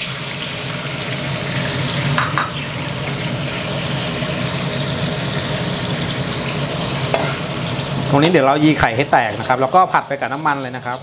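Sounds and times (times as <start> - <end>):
eggs sizzling in hot oil: 0.0 - 11.0.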